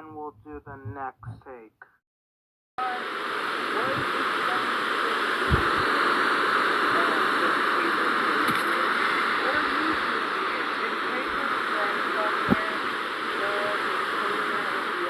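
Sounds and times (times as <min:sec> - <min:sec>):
static-like rushing noise: 0:02.8 - 0:15.0.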